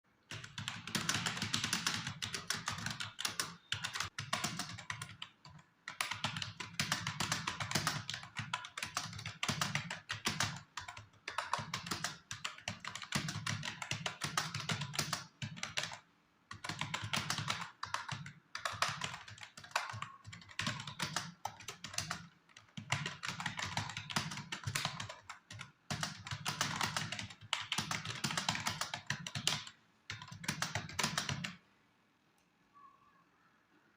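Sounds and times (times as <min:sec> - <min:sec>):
fast typing on keyboard: 0:00.2 - 0:31.6.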